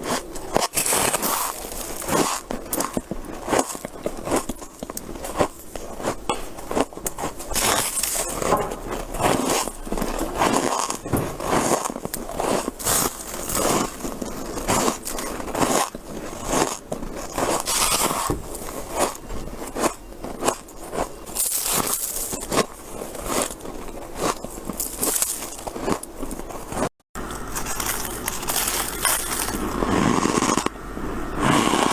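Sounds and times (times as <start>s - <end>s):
crunchy chewing of frost: 0.0s - 31.9s.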